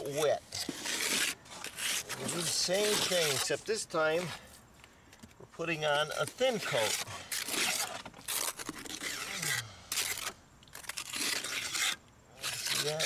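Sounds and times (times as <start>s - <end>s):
trowel scraping cement on wall: 0.0s - 4.4s, 6.2s - 13.0s.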